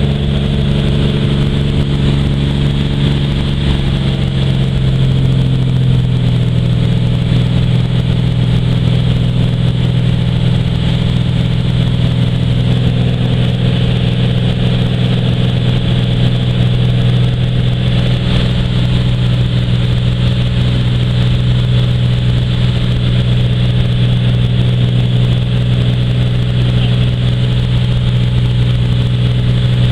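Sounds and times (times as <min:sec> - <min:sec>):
aircraft engine drone in cabin: 0:00.0 - 0:29.9.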